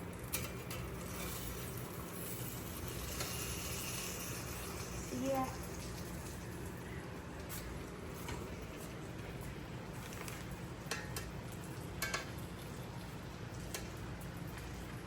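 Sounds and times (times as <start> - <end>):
quesadilla sizzling in a pan: 0.0 - 15.0.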